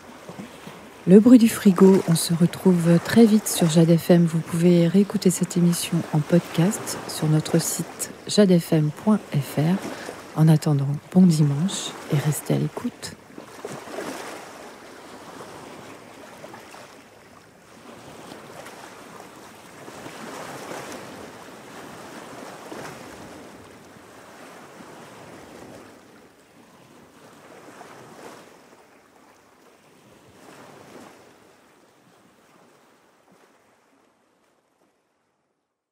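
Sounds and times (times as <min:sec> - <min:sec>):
sea waves washing in: 0:00.0 - 0:34.0.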